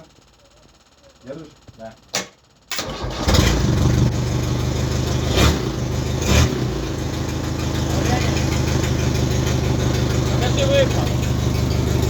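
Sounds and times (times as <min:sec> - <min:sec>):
diesel engine cranking and starting: 0:02.1 - 0:12.0.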